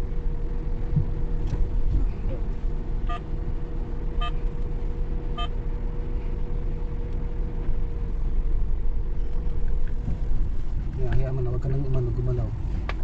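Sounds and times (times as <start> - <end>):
van engine running: 0.0 - 13.0.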